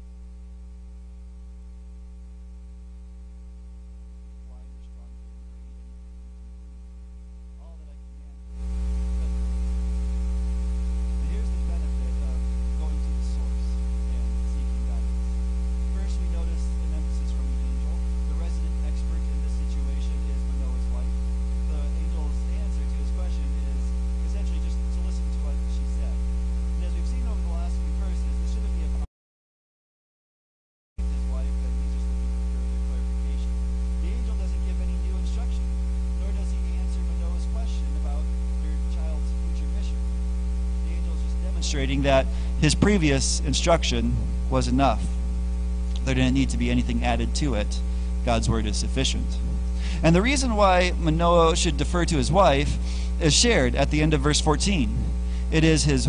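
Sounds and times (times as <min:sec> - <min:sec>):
electrical mains hum: 0:00.0 - 0:29.1, 0:31.0 - 0:56.0.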